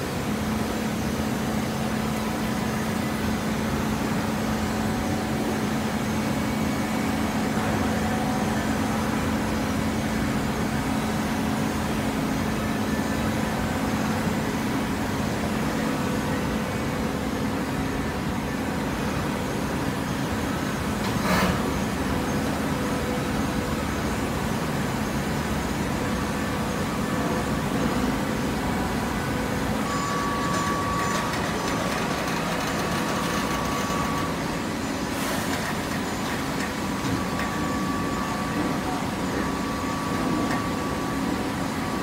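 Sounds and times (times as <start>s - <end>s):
hydraulic baler humming: 0.0s - 42.0s
machinery noise: 0.0s - 42.0s.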